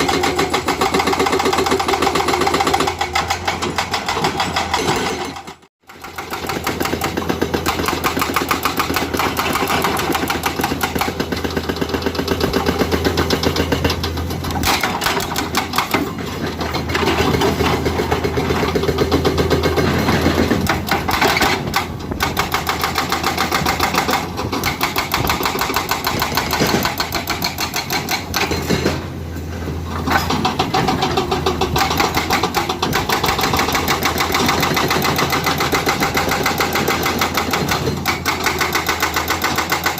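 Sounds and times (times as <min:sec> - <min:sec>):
hydraulic breaker hammering rock: 0:00.0 - 0:29.2, 0:29.8 - 0:39.9
excavator engine running: 0:00.0 - 0:39.9.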